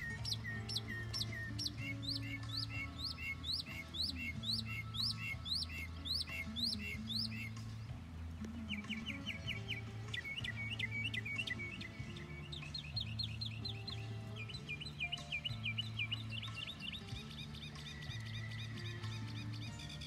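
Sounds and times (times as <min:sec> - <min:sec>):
music of sustained low notes: 0:00.0 - 0:20.0
songbirds chirping in trills: 0:00.0 - 0:20.0.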